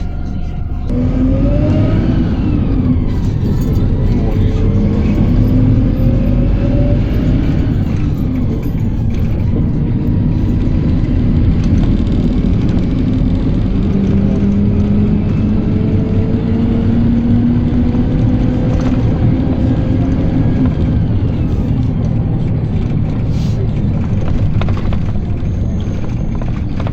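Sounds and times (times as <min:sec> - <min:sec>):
bus engine and road rumble: 0:00.0 - 0:26.9.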